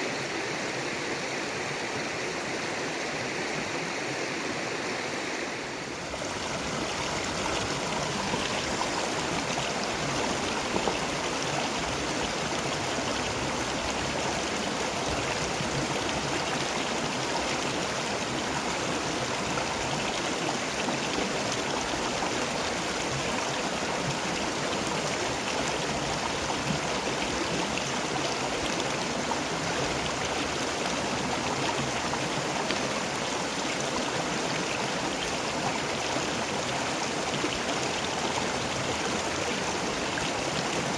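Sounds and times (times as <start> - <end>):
river water rushing over stones: 0.0 - 40.9.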